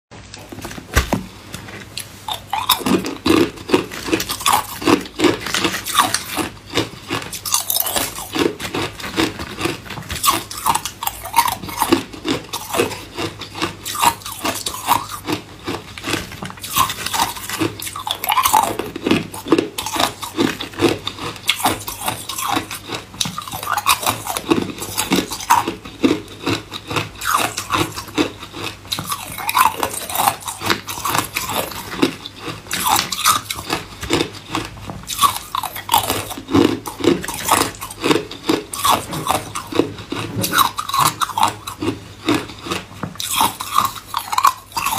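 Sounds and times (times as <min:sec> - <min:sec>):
ice cubes crunching: 0:02.0 - 0:44.9.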